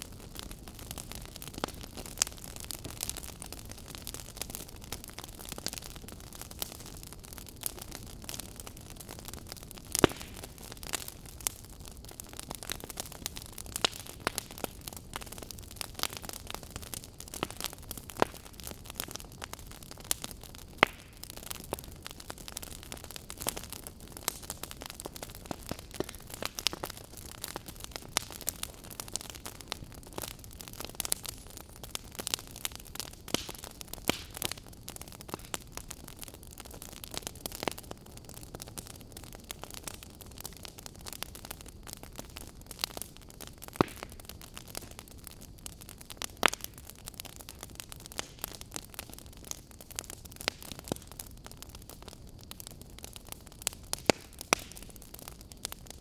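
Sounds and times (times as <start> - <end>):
burning firewood crackling: 0.0 - 56.0.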